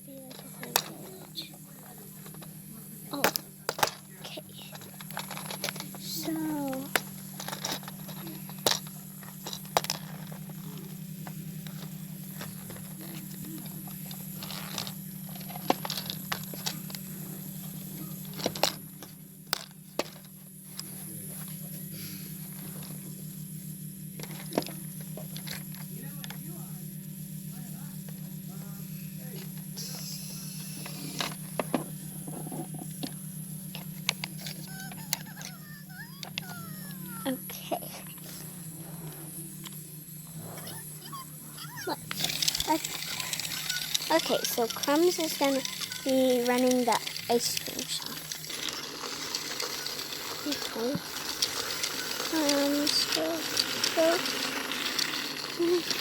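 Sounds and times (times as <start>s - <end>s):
steady low hum: 0.0s - 56.0s
plastic toys clicking and tapping: 0.1s - 20.9s, 24.2s - 26.4s, 30.6s - 38.3s, 40.7s - 56.0s.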